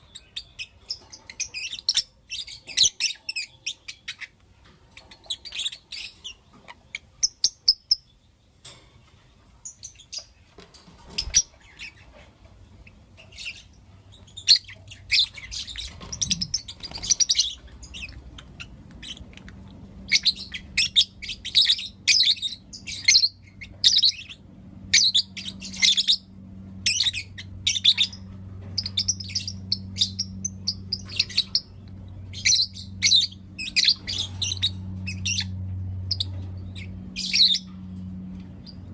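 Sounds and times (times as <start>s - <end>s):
lovebirds chirping: 0.0s - 38.9s
steady low hum: 0.0s - 38.9s.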